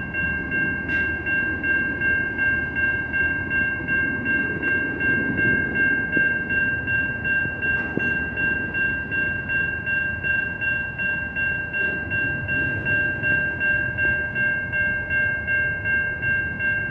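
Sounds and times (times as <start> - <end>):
train rumble passing: 0.0 - 16.9
level crossing bell ringing: 0.1 - 16.9.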